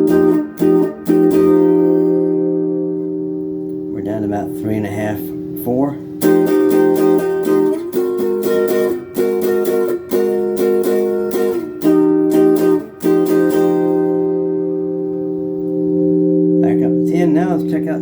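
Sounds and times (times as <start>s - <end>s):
electric guitar chords ringing: 0.0s - 18.0s.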